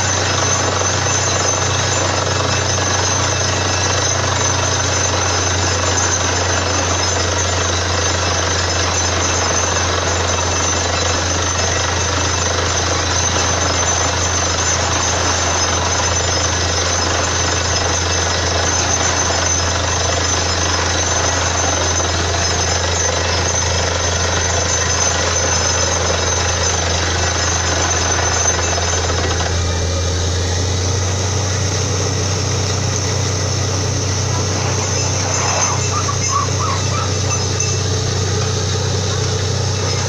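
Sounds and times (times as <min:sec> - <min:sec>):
drilling rig hammering rattle: 0:00.0 - 0:40.0
low engine hum: 0:00.0 - 0:40.0.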